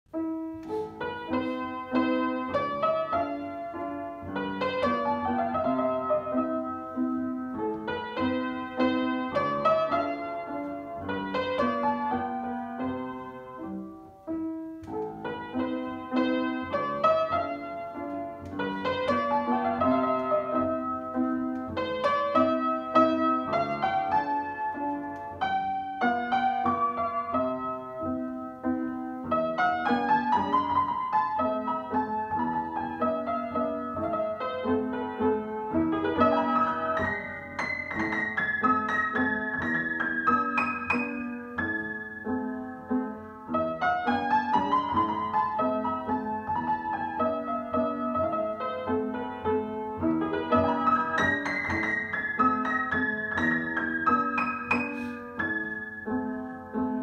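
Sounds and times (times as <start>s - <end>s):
solo upright piano: 0.0s - 57.0s.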